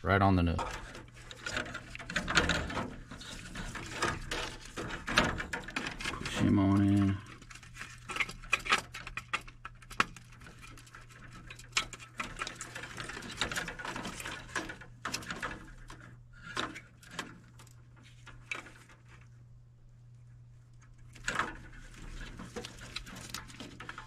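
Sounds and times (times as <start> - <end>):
steady low hum: 0.0 - 24.0
small plastic clicks and rustles: 0.6 - 19.4, 20.0 - 24.0.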